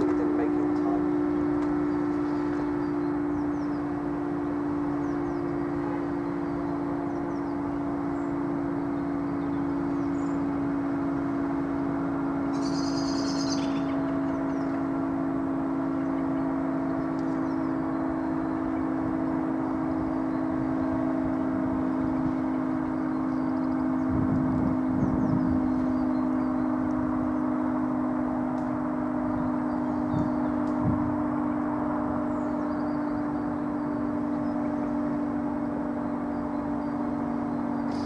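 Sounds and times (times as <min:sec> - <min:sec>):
siren steady tone: 0:00.0 - 0:38.0.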